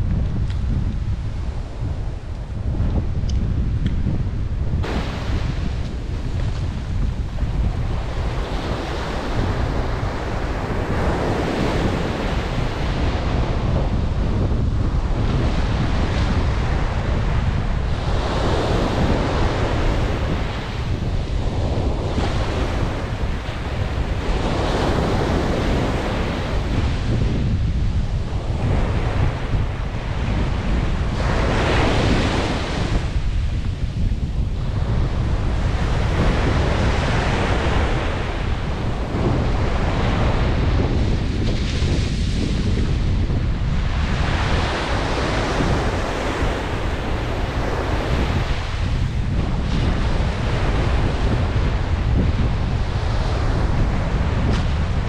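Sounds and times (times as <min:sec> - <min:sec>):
wind buffeting microphone: 0:00.0 - 0:55.0
surf breaking on shore: 0:04.7 - 0:55.0.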